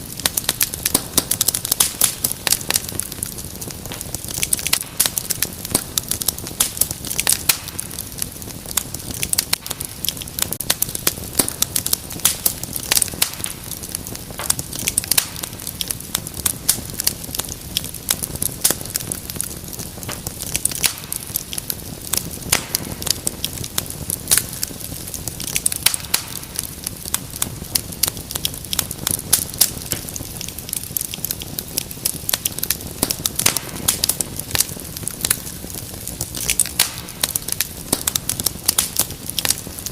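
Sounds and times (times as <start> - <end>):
flames rushing: 0.0 - 39.9
wood fire crackling: 0.0 - 39.9.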